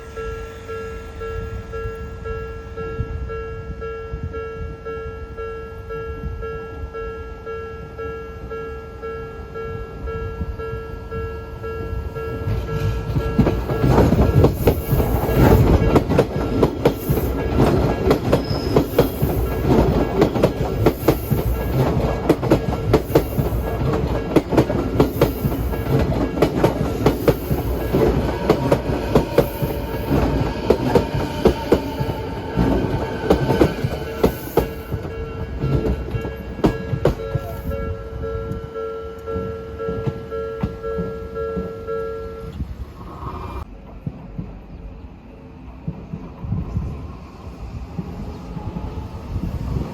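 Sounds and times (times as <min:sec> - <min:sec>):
train wheels clacking on rails: 0:09.6 - 0:49.9.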